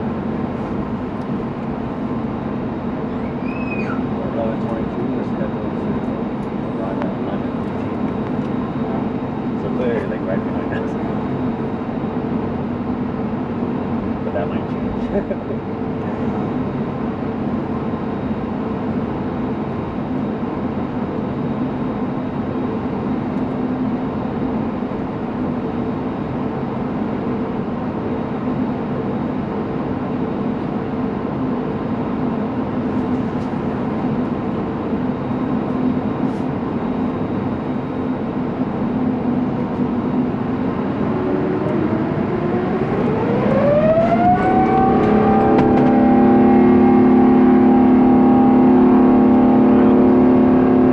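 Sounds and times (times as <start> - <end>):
jet engines humming from cabin: 0.0 - 50.9.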